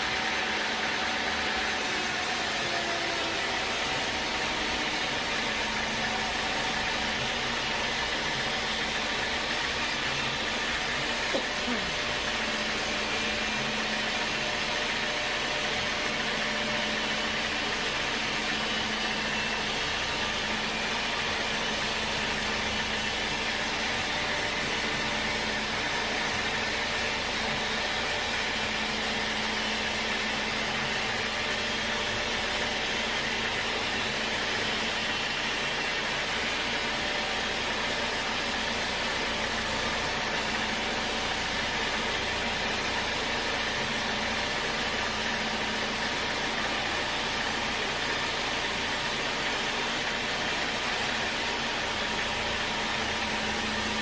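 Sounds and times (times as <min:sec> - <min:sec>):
sawmill machinery rushing: 0:00.0 - 0:54.0.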